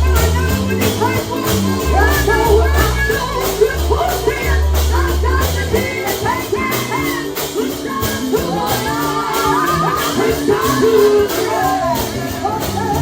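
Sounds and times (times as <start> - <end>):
gospel singing: 0.0 - 13.0
heavy bass line: 0.0 - 13.0
steady drum beat: 0.0 - 13.0.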